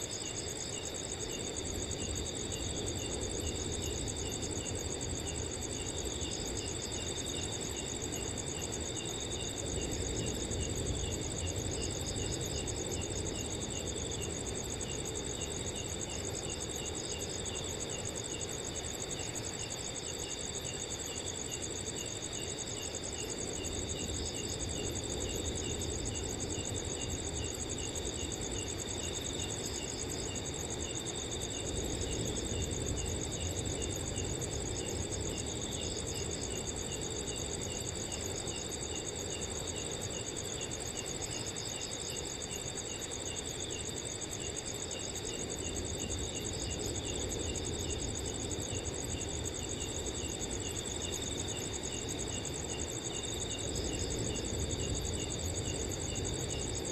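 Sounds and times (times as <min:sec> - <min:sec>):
repeated cricket chirp: 0:00.0 - 0:56.9.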